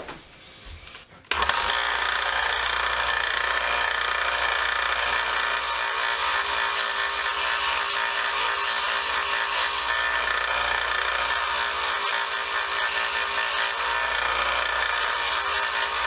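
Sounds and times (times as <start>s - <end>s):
belt sander grinding wood: 0.8s - 16.0s.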